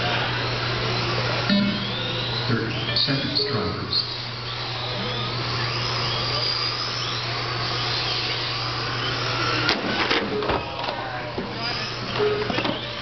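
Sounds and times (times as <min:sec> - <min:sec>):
electric toy car motors whining: 0:00.0 - 0:13.0
steady low hum: 0:00.0 - 0:13.0.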